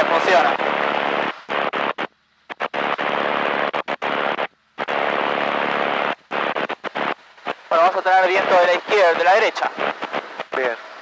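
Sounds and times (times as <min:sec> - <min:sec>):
wind hiss over intercom: 0:00.0 - 0:11.0.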